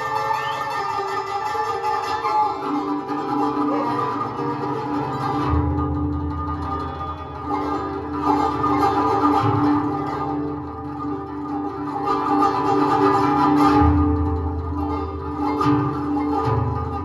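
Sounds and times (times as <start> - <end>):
plucked zither melody: 0.0 - 17.0.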